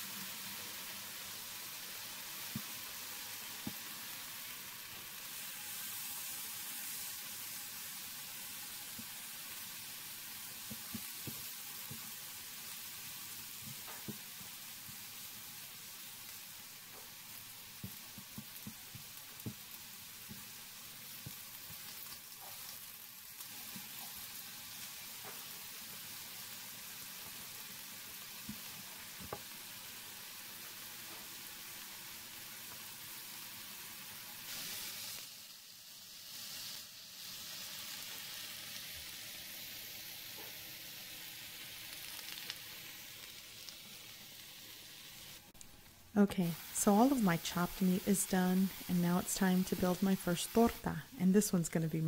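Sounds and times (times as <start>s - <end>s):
meat sizzling on a griddle: 0.0s - 50.8s.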